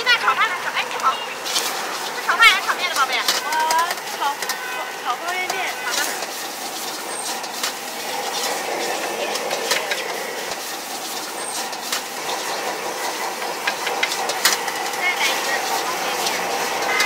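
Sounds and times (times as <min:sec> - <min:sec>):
gas burner roaring: 0:00.0 - 0:17.0
rice sizzling in a wok: 0:00.0 - 0:17.0
metal ladle scraping a wok: 0:01.4 - 0:17.0.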